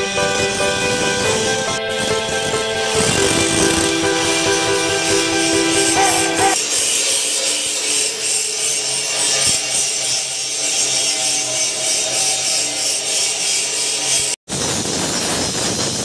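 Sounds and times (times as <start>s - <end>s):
angle grinder grinding steel: 0.0s - 16.0s.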